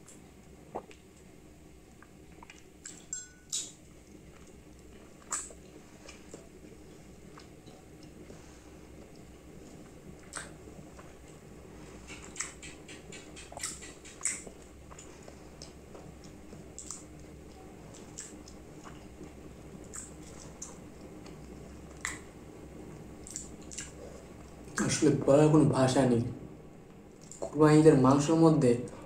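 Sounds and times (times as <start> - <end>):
wet chewing clicks and smacks: 0.0 - 1.3, 1.9 - 24.9, 26.8 - 27.6.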